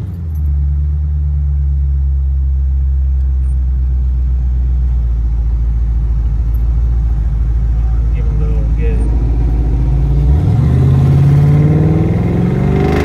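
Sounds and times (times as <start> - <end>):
car engine idling with low rumble: 0.0 - 11.6.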